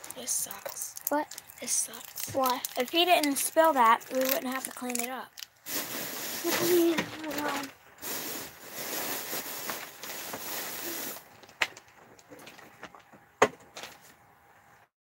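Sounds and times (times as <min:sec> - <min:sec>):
rustling: 0:00.0 - 0:12.8.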